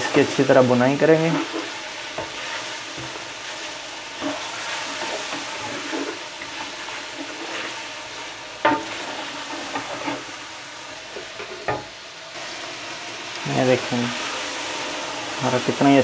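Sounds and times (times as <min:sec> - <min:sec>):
masala sizzling in oil: 0:00.0 - 0:16.0.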